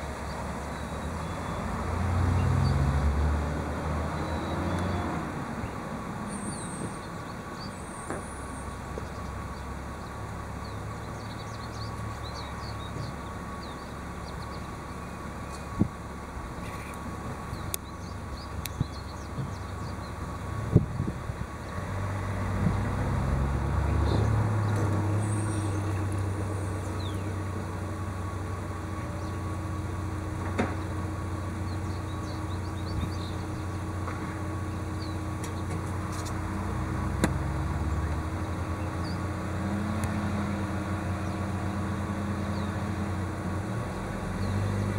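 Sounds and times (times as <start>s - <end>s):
diesel engine idling: 3.6s - 44.9s.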